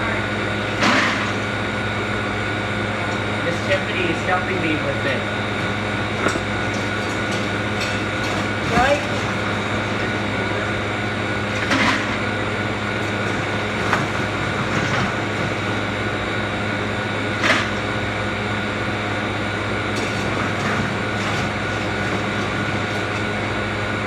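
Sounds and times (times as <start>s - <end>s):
ice machine humming: 0.0s - 24.0s.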